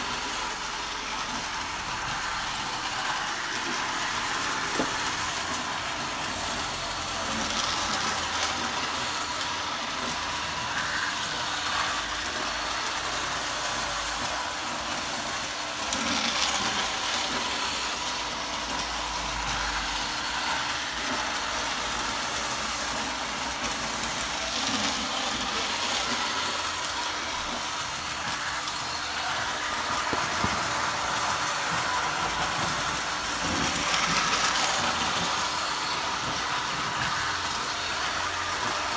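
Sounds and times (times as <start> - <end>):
toy train running on plastic track: 0.0 - 38.9.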